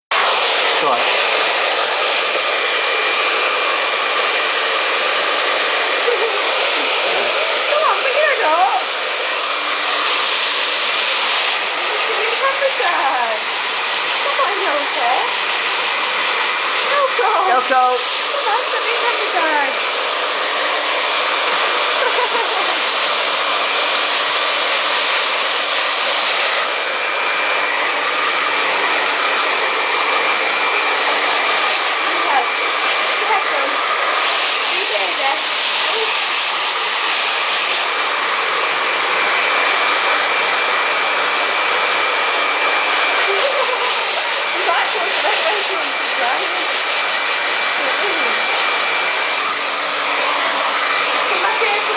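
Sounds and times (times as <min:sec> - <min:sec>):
hair dryer blowing: 0:00.0 - 0:51.9.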